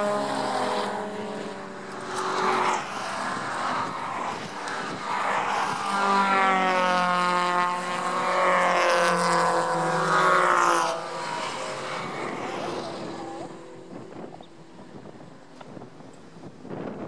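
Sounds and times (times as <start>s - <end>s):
race cars passing at speed: 0.0s - 17.0s.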